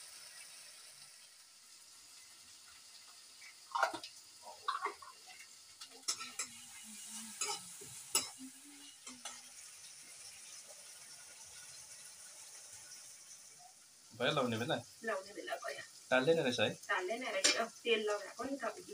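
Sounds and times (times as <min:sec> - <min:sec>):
sizzling hiss: 0:00.0 - 0:18.9.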